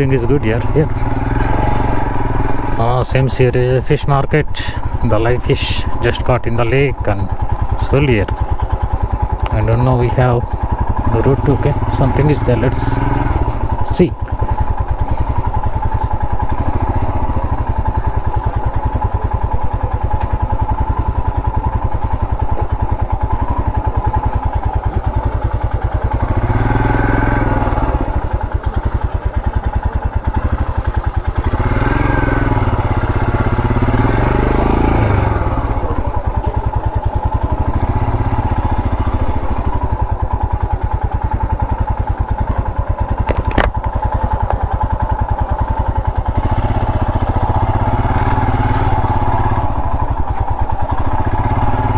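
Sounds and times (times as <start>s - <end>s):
motorcycle engine thumping: 0.0s - 3.2s, 5.8s - 51.9s.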